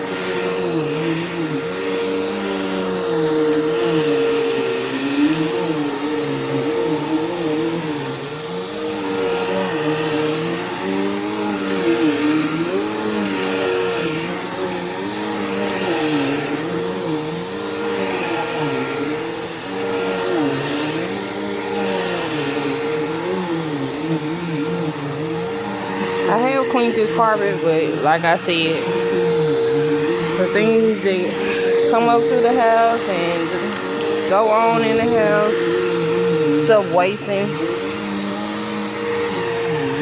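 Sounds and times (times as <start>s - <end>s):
vacuum cleaner on carpet: 0.0s - 40.0s.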